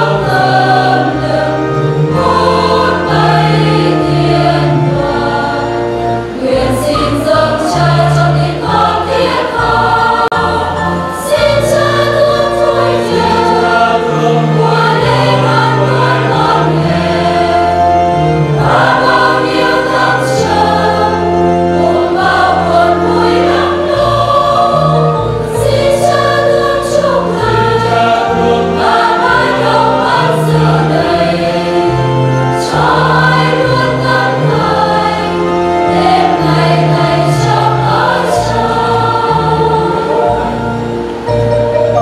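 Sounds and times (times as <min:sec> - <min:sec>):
women's choir singing in unison: 0:00.0 - 0:41.3.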